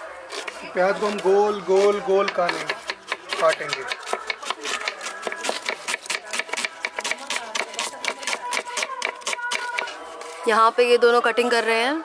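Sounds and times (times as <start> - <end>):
knife chopping on wooden board: 0.3 - 10.0.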